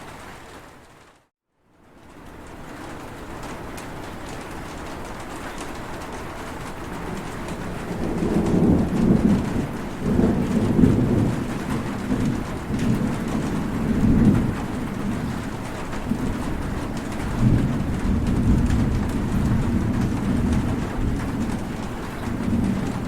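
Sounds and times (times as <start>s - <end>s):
heavy rain falling: 0.0s - 1.3s, 1.9s - 23.0s
low rolling thunder: 2.5s - 23.0s.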